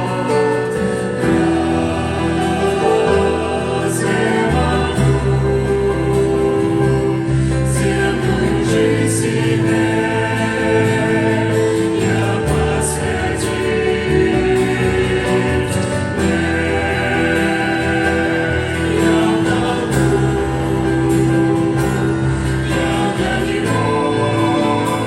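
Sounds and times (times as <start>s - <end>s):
instrumental accompaniment: 0.0s - 25.0s
voices singing: 0.0s - 25.0s.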